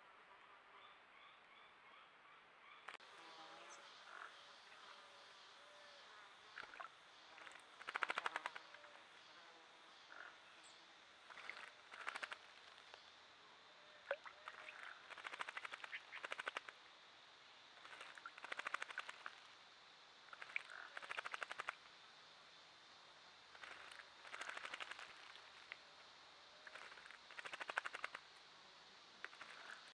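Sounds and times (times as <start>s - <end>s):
frogs calling with rattling trills: 2.6s - 29.9s.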